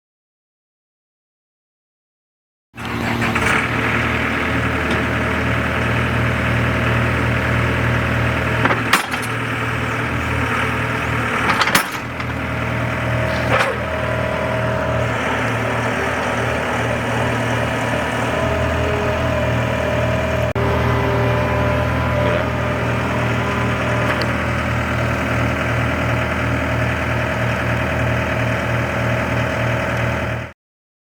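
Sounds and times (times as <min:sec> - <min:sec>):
skid steer engine running: 0:02.8 - 0:30.6.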